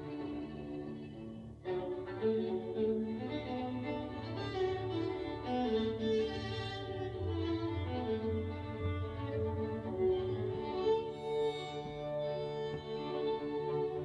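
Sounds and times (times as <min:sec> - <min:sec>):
bowed strings sustained notes: 0:00.0 - 0:14.0.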